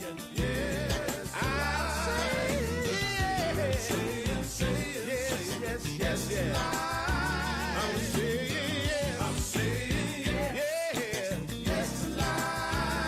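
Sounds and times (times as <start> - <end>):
person singing with vibrato: 0.0 - 13.0
bass line and drums: 0.4 - 10.6, 11.3 - 13.0.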